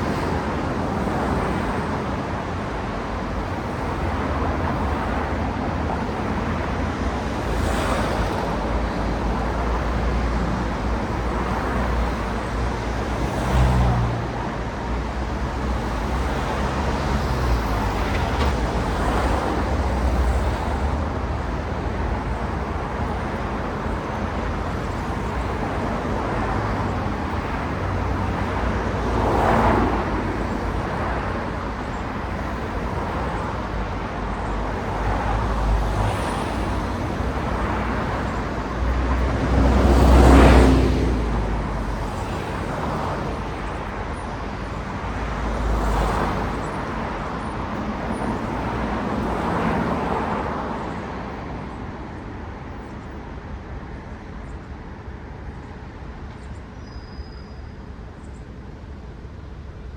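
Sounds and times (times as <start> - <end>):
cars passing by: 0.0 - 59.9
road traffic: 0.0 - 59.9.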